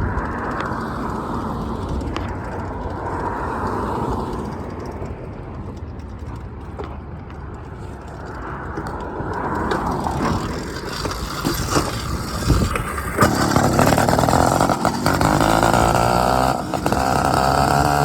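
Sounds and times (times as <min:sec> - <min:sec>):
two-stroke engine running: 0:00.0 - 0:18.0.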